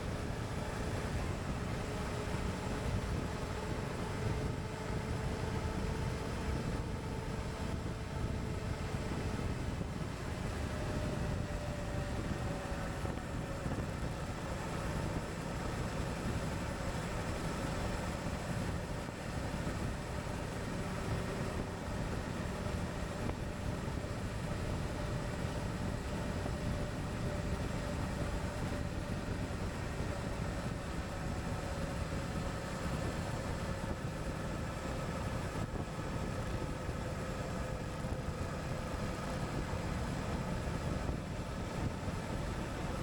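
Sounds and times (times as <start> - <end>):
wind and road noise: 0.0 - 43.0.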